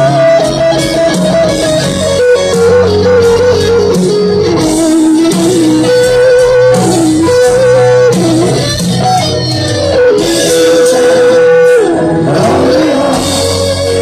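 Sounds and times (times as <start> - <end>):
electric guitar solo: 0.0 - 14.0
live rock band: 0.0 - 14.0.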